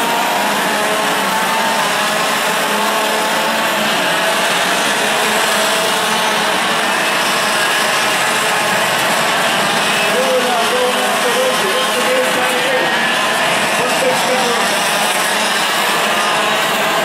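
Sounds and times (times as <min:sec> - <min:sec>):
racing kart engines buzzing: 0:00.0 - 0:17.0.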